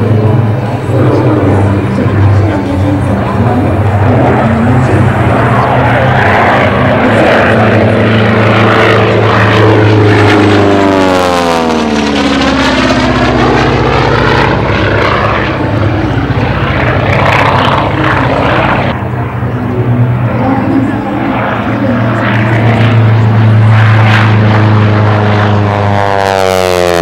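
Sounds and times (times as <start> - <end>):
propeller plane engine drone: 0.0 - 27.0.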